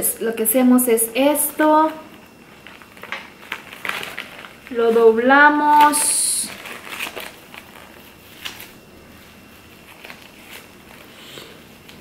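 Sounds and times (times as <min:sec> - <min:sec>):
seaweed sheet and wrap rustling: 0:01.4 - 0:12.0
faint crackles of seaweed handling: 0:01.5 - 0:12.0.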